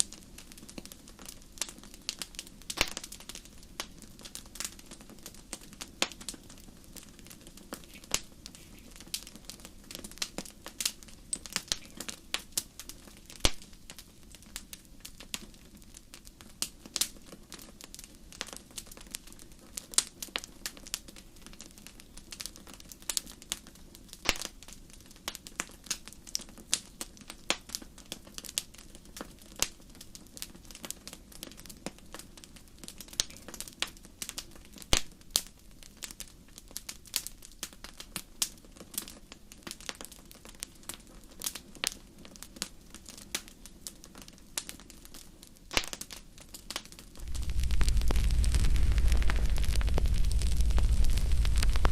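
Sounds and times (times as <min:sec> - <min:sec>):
low steady hiss: 0:00.0 - 0:37.5, 0:41.6 - 0:51.9
campfire crackling and popping: 0:00.0 - 0:51.9.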